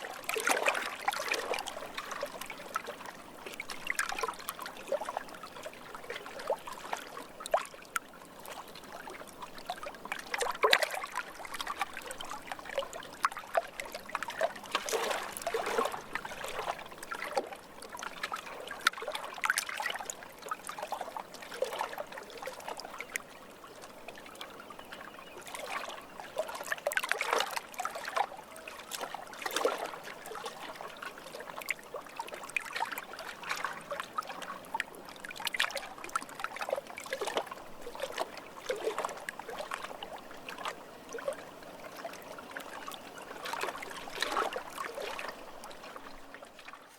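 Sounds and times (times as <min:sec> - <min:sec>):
lake water lapping: 0:00.0 - 0:46.9.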